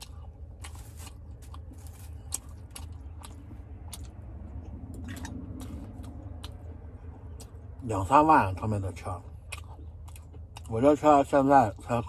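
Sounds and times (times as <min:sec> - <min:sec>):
person chewing food: 0:00.0 - 0:12.0
steady low hum: 0:00.0 - 0:12.0.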